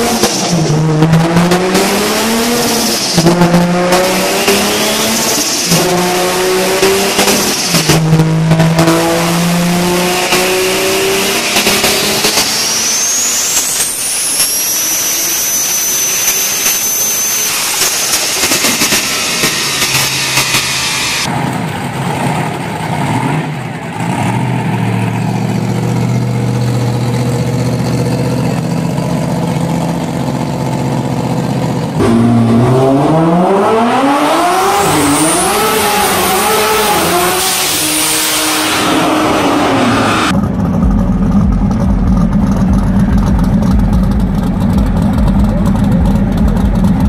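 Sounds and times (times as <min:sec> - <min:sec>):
turbocharged car engine idling: 0:00.0 - 0:32.7, 0:39.8 - 0:47.0
drag car engine deep rumble: 0:00.0 - 0:33.7, 0:38.8 - 0:47.0
car engine revving: 0:00.0 - 0:47.0.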